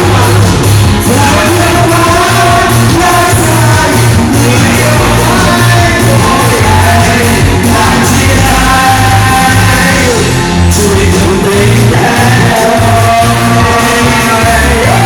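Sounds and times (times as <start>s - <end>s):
people singing: 0.0s - 15.0s
pop-rock band playing: 0.0s - 15.0s.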